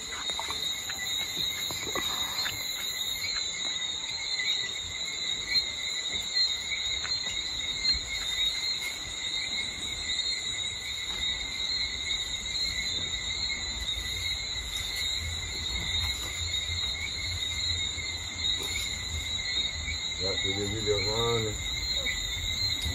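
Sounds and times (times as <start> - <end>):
insects chorus: 0.0 - 22.9.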